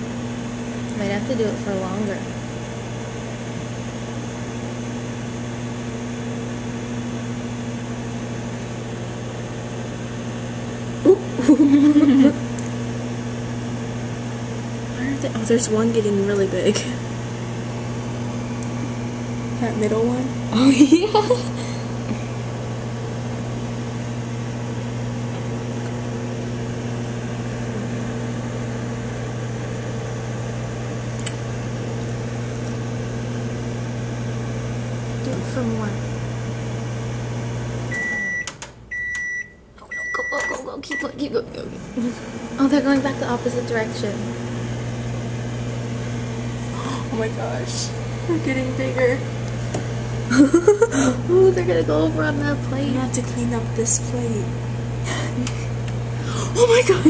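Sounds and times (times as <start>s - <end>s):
microwave oven humming: 0.0s - 57.0s.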